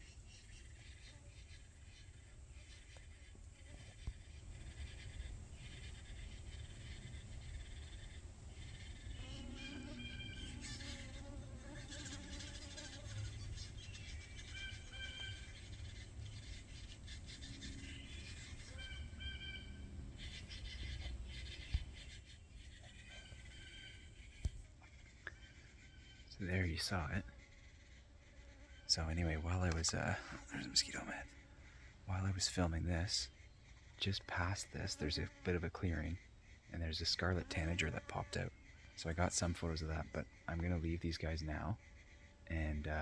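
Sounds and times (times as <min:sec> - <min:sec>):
nestlings chattering: 0:04.0 - 0:27.4, 0:28.5 - 0:41.8.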